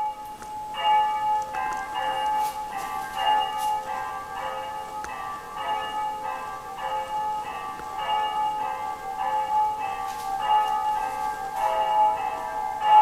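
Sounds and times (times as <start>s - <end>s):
bell-like chimes melody: 0.0s - 13.0s.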